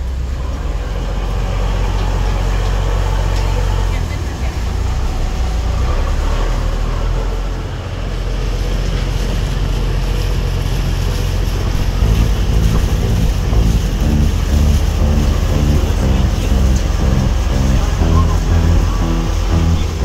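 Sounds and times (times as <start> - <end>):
boat engine running: 0.0 - 20.0
water noise: 0.0 - 20.0
wind: 0.0 - 20.0.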